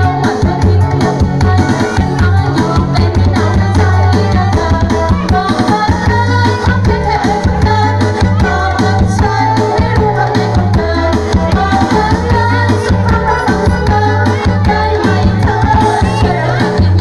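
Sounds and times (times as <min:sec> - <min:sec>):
music with drums and bass: 0:00.0 - 0:17.0
person singing: 0:00.0 - 0:17.0.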